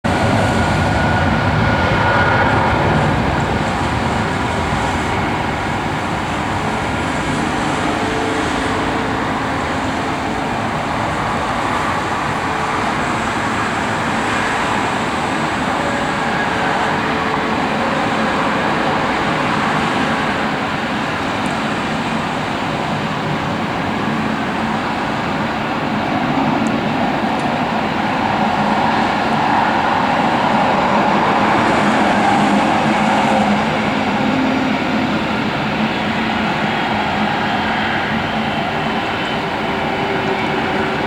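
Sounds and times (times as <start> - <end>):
jet engines taxiing: 0.0 - 41.0.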